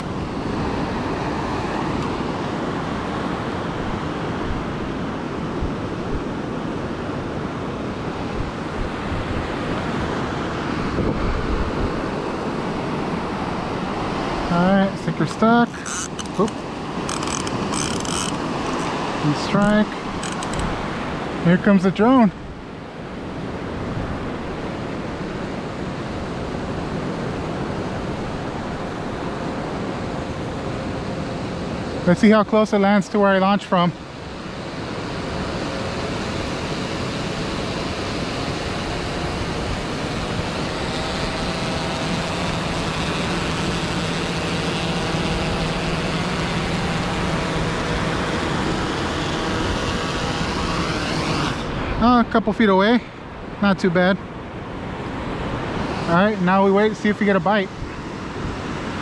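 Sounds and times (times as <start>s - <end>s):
ocean surf: 0.0s - 59.0s
wind: 0.0s - 59.0s.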